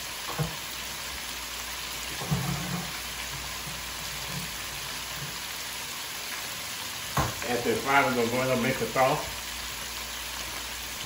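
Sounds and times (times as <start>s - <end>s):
shrimp deep-frying in oil: 0.0s - 11.0s.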